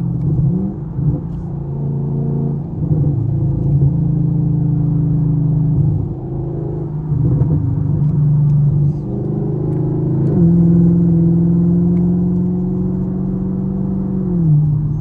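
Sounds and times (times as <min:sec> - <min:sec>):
car engine running inside car: 0:00.0 - 0:15.0.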